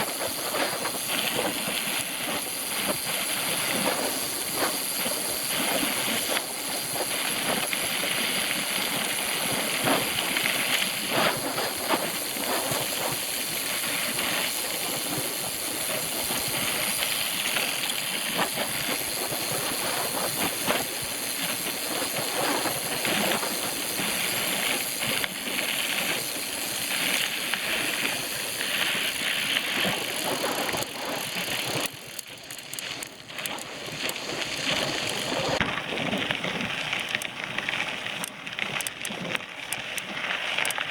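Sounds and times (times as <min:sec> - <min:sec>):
bicycle tyre noise on trail: 0:00.0 - 0:40.9
bike clicks and rattles: 0:00.0 - 0:40.9.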